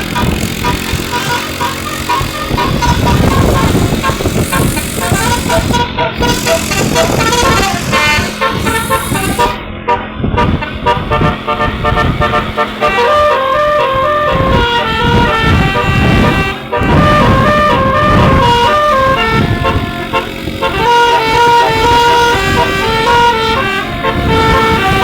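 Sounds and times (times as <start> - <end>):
low engine rumble: 0.0 - 25.0
multi-tone bus horn tune: 0.0 - 25.0.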